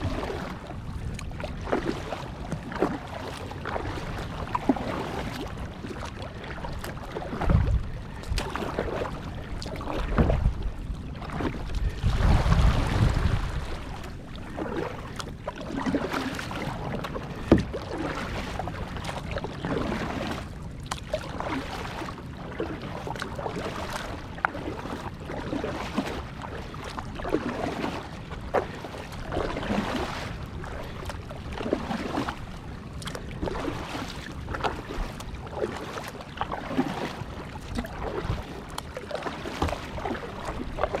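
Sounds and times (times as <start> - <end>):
wind rumble on microphone: 0.0 - 38.8, 39.5 - 41.0
paddle splashing in water: 0.0 - 41.0.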